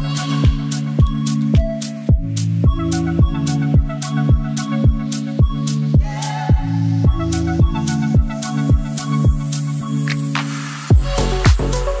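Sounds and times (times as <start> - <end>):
deep kick drum beat: 0.0 - 9.5, 10.9 - 11.8.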